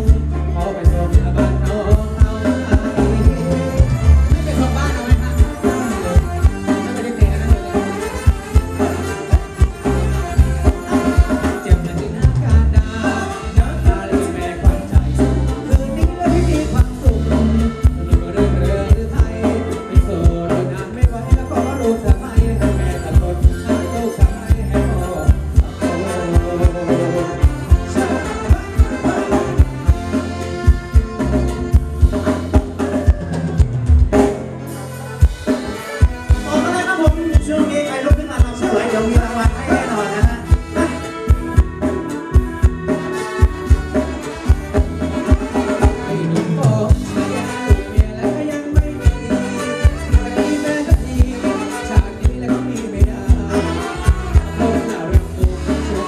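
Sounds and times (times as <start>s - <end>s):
electric guitar: 0.0s - 56.0s
keyboard: 0.0s - 56.0s
person singing: 0.0s - 56.0s
drum kit dance beat: 1.1s - 34.6s, 35.2s - 56.0s.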